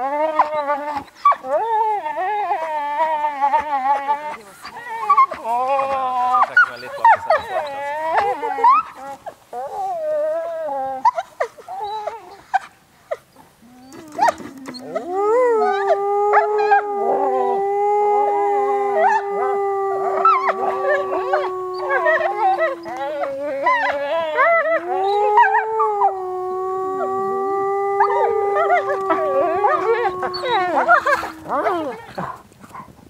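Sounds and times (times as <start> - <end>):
people howling: 0.0 - 11.1, 13.6 - 32.3
wolves howling: 0.0 - 12.5, 13.6 - 32.4
high howls and yips: 0.0 - 12.7, 13.6 - 32.3.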